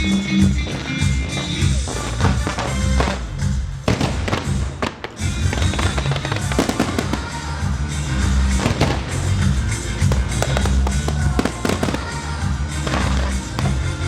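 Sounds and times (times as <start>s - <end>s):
fireworks bursting and crackling: 0.0s - 14.0s
song over loudspeakers: 0.0s - 14.0s.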